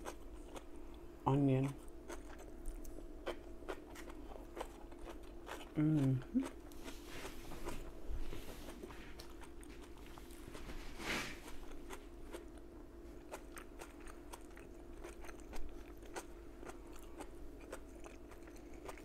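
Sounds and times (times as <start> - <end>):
chewing crunchy vegetables: 0.0 - 19.0.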